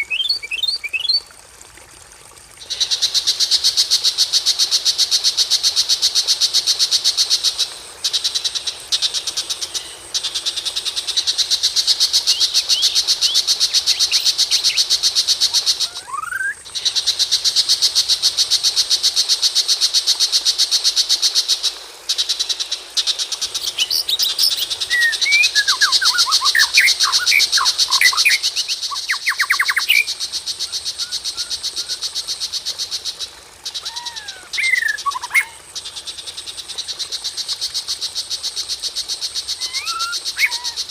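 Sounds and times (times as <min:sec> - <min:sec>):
songbird calls: 0:00.0 - 0:01.3, 0:02.6 - 0:17.9, 0:20.3 - 0:40.9
high pulsing insect trill: 0:02.7 - 0:40.9.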